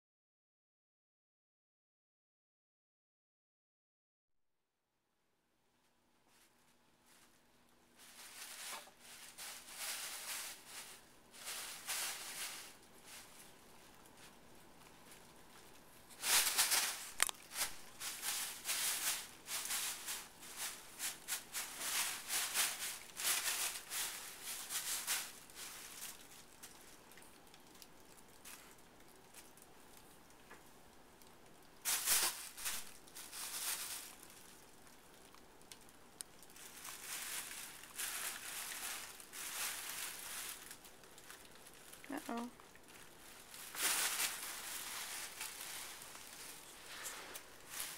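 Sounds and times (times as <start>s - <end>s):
plastic bags rustling and crinkling: 6.2s - 47.9s.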